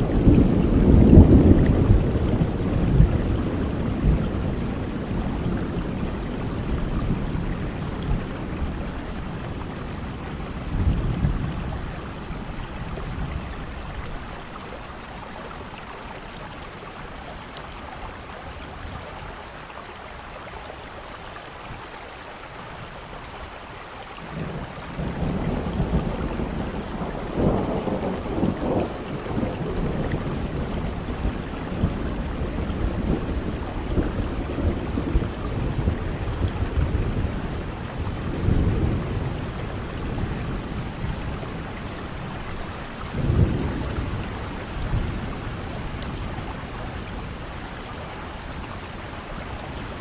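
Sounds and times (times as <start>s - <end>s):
thunder rumbling: 0.0s - 17.6s, 24.2s - 50.0s
steady rain: 0.0s - 50.0s.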